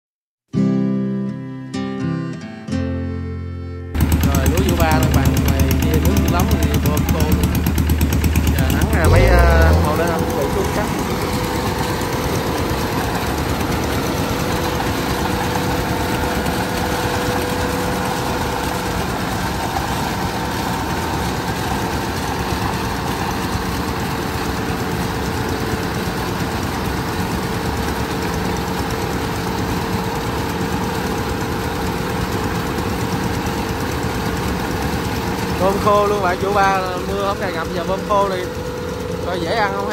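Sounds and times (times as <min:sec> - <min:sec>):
combine harvester running: 0:04.0 - 0:39.9.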